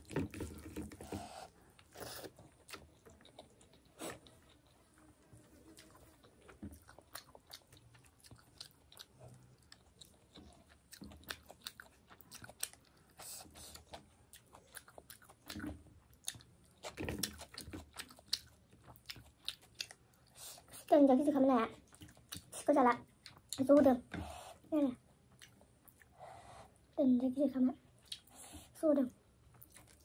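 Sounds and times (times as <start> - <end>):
person chewing wetly: 0.0 - 20.9, 21.8 - 24.4, 25.2 - 26.1, 28.0 - 28.4, 29.5 - 30.0.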